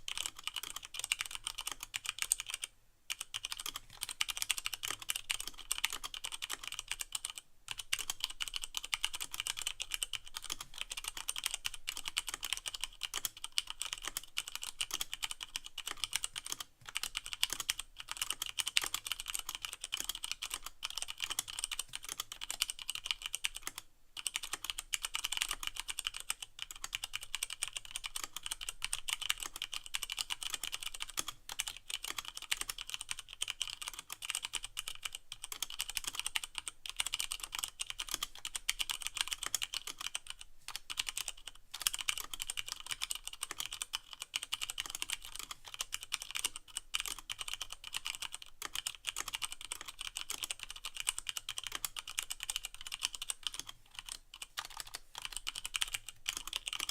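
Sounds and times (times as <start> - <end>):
mechanical keyboard typing: 0.0 - 56.9.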